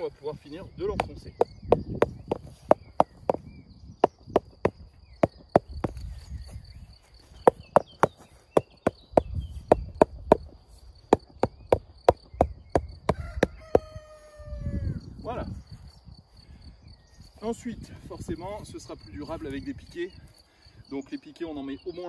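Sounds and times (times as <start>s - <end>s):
cricket trill: 0.0s - 22.0s.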